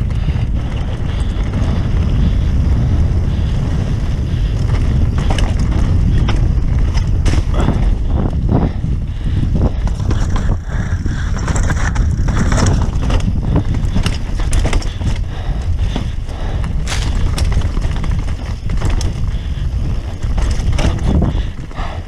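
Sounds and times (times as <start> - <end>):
tyres crunching over dirt: 0.0 - 8.8, 9.5 - 21.9
bike rattling over rocks: 0.0 - 22.0
wind rumble on microphone: 0.0 - 22.0.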